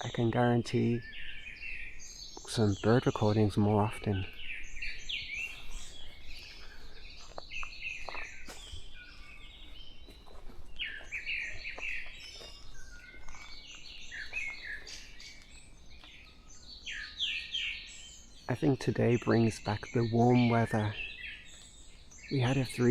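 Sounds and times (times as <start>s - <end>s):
songbirds chirping and whistling: 0.0s - 22.9s.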